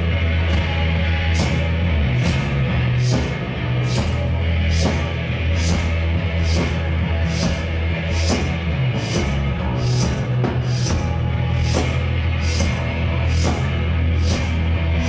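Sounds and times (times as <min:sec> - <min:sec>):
drum and cymbal hits: 0:00.0 - 0:15.0
heavy bass line: 0:00.0 - 0:15.0
rock band playing live: 0:00.0 - 0:15.0.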